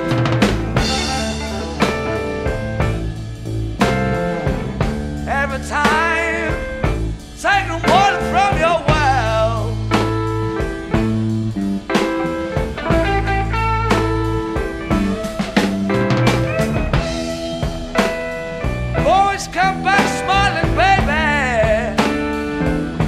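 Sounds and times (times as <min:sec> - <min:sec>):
blues-rock band: 0:00.0 - 0:23.0
lead electric guitar bends: 0:00.0 - 0:23.0.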